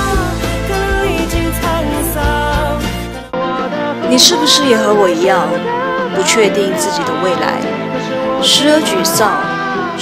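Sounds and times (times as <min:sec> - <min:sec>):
song playing: 0:00.0 - 0:10.0.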